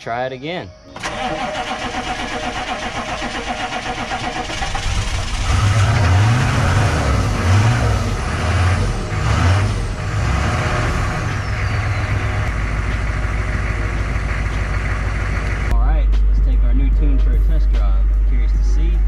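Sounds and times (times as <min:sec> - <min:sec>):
diesel engine cranking and idling: 0:01.0 - 0:19.0.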